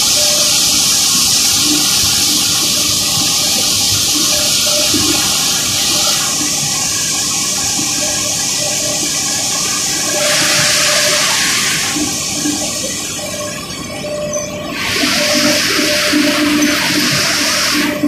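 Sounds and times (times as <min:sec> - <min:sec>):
mill fans rushing hiss: 0:00.0 - 0:18.0.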